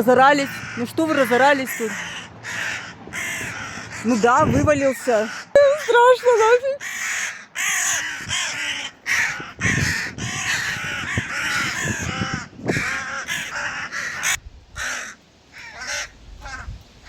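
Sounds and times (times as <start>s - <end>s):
crows cawing: 0.3s - 16.8s.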